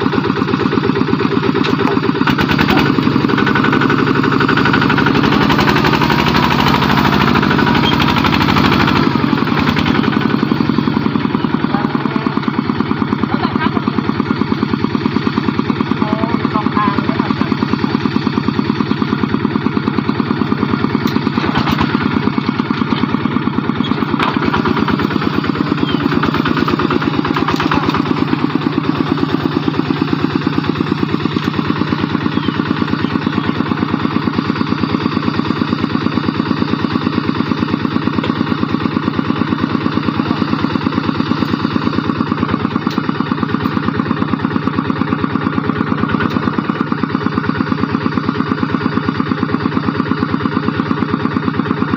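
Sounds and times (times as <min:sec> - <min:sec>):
diesel engine chugging: 0:00.0 - 0:51.9.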